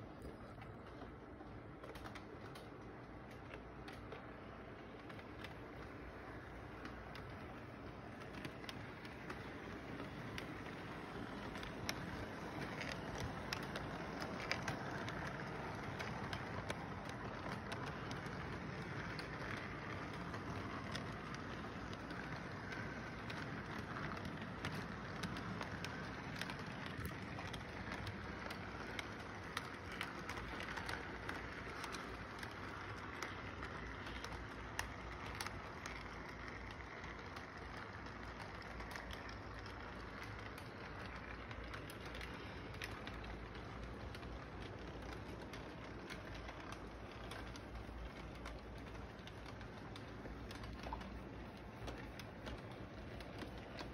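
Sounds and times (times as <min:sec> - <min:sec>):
wheels clicking over rail joints: 0:00.0 - 0:53.9
model train motor whirring: 0:03.7 - 0:53.9.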